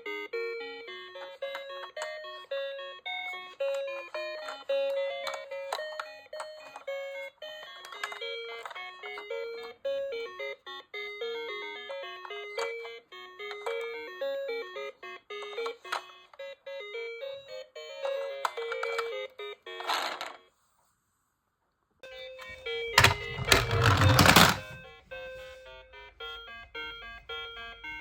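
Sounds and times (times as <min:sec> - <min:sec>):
toy electronic bell-like melody: 0:00.0 - 0:20.0, 0:22.0 - 0:28.0.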